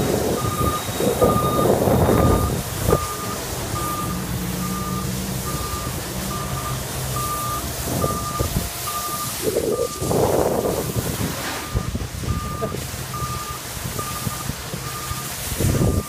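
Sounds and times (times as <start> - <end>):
low engine hum: 0.0 - 16.0
reversing alarm beeping: 0.3 - 11.0, 11.6 - 16.0.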